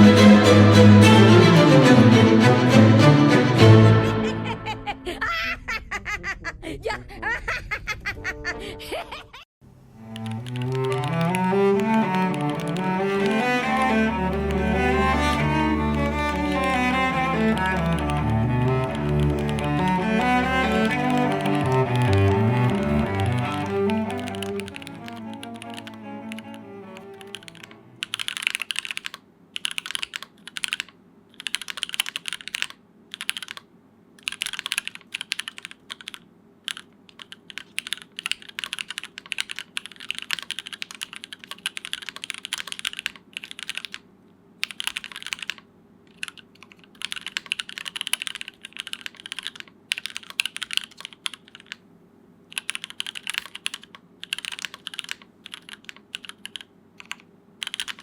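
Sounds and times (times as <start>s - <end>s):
keyboard typing: 10.0s - 44.0s, 44.6s - 51.8s, 52.5s - 58.0s.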